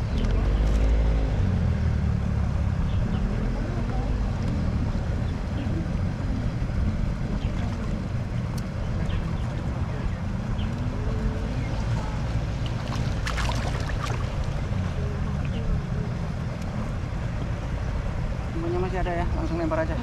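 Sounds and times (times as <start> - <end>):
water noise: 0.0 - 20.0.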